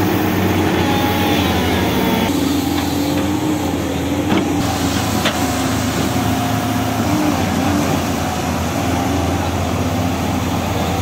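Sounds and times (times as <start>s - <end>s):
excavator engines humming: 0.0s - 11.0s.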